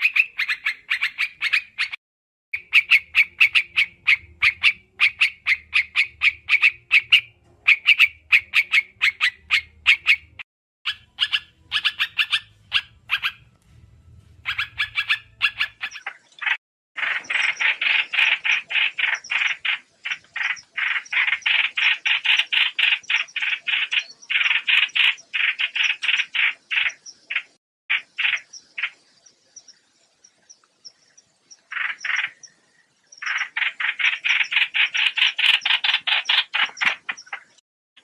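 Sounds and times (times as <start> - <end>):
songbird chattering: 0.0 - 2.0, 2.6 - 13.5, 14.4 - 37.6.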